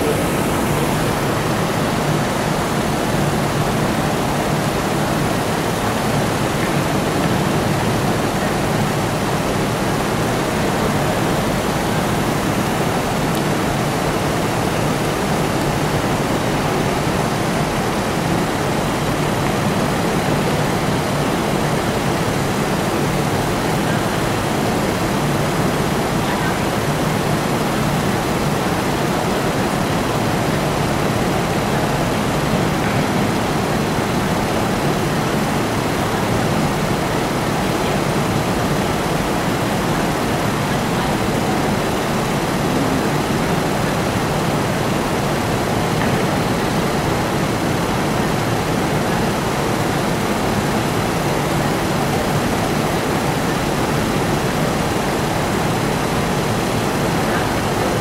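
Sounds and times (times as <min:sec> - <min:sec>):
steady rushing noise: 0:00.0 - 0:58.0.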